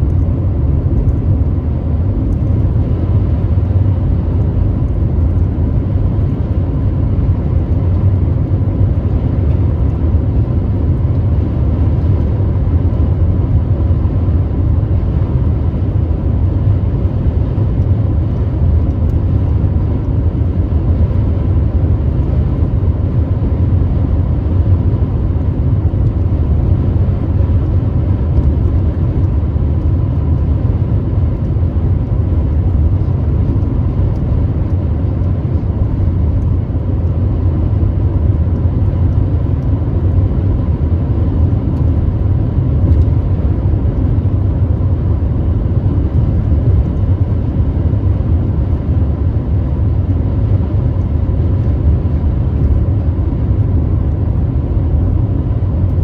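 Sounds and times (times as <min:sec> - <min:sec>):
car road noise rumble: 0:00.0 - 0:56.0.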